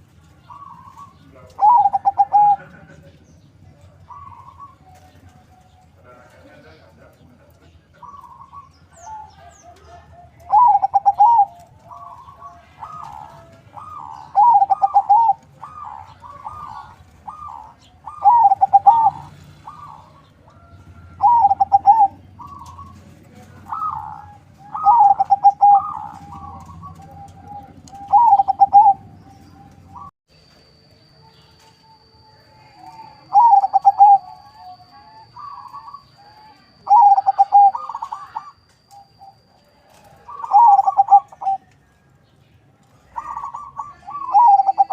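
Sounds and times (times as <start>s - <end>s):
dove cooing: 0.0s - 3.2s, 3.8s - 30.1s, 32.6s - 41.8s, 43.0s - 44.9s.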